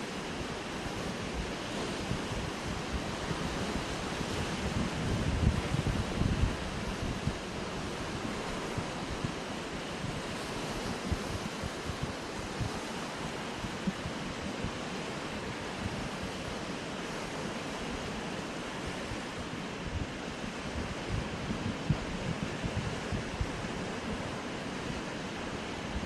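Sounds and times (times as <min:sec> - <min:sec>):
wind buffeting microphone: 0:00.8 - 0:26.0.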